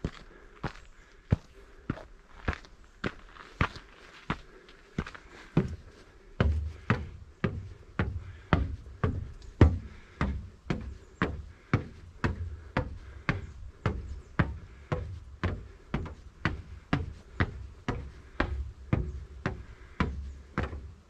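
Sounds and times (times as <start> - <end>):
footsteps on trail: 0.0 - 21.0.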